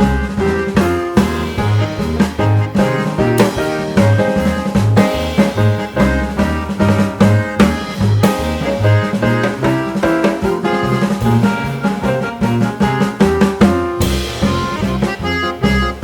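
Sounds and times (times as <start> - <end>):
bass line: 0.0 - 16.0
drums: 0.0 - 16.0.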